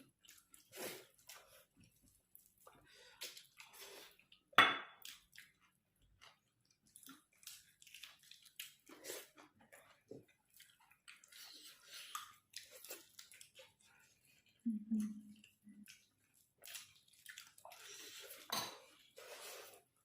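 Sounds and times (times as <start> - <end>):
mouth and eating noises: 0.0 - 20.0
person chewing food: 0.0 - 20.0.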